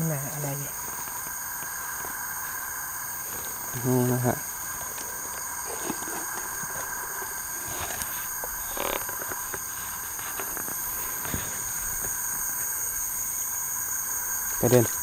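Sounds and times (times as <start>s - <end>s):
night insects droning: 0.0s - 15.0s.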